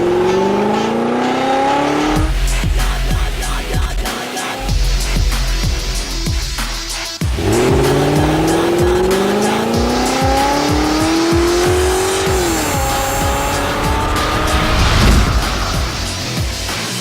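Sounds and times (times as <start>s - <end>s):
car engine revving: 0.0s - 3.8s, 4.8s - 17.0s
music with steady beat: 1.8s - 17.0s.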